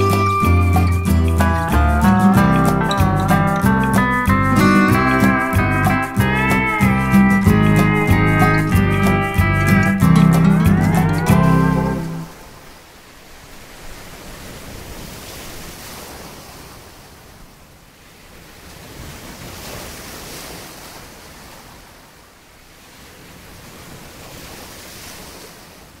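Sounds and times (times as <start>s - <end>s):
ocean waves washing in: 0.0s - 26.0s.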